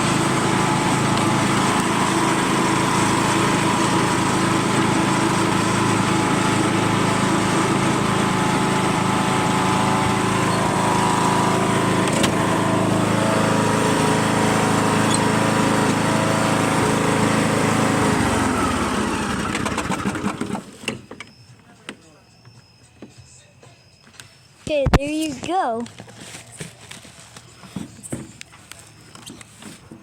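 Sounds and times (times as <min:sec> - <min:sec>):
tractor engine running and shutting off: 0:00.0 - 0:22.0, 0:26.0 - 0:30.0.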